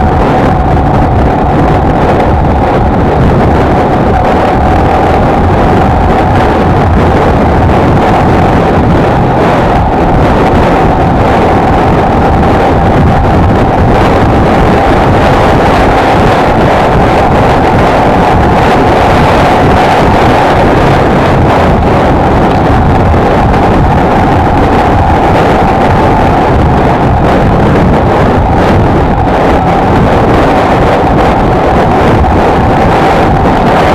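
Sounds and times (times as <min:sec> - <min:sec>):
wind noise on microphone: 0:00.0 - 0:33.9.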